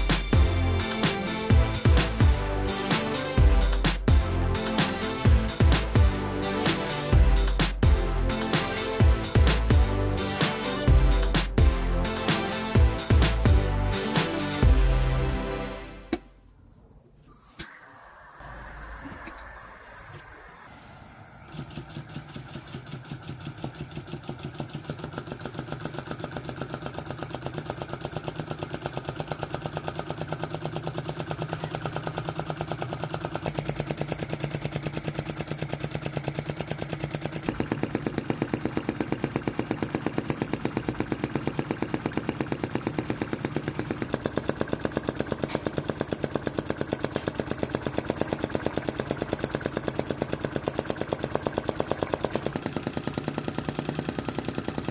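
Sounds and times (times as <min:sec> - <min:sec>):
small engine pulsing: 0:00.0 - 0:15.4, 0:17.5 - 0:54.9.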